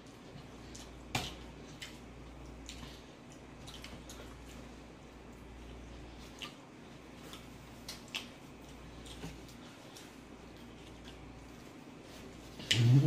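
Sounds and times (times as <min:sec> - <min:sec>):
people eating with lip smacks: 0:00.0 - 0:13.0.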